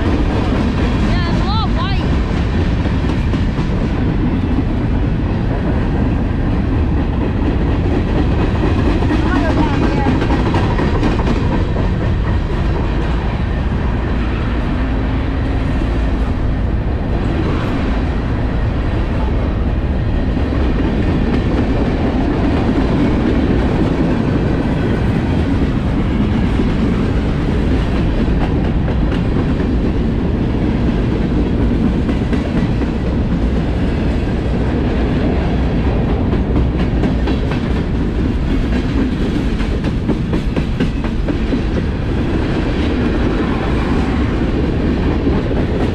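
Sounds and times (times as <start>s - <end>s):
freight train wheels on rails: 0.0s - 45.9s.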